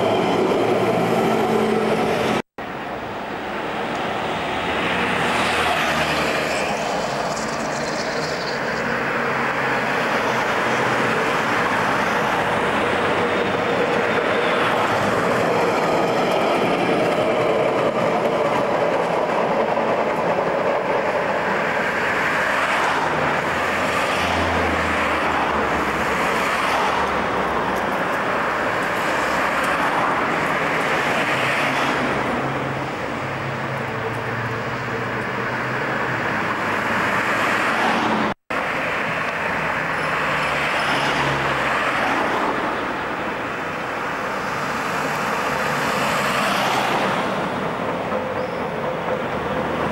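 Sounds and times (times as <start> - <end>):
cars going by: 0.0 - 49.9
tram running along street: 0.0 - 49.9.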